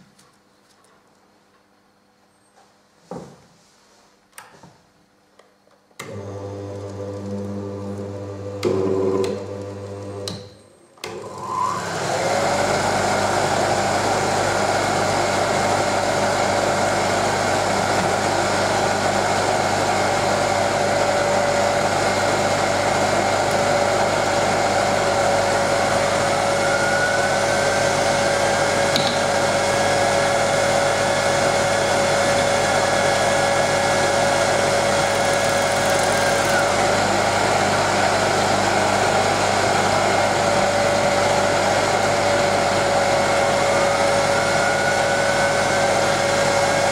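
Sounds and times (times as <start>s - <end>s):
electric motor hum and whine: 6.0s - 10.5s, 11.1s - 46.9s.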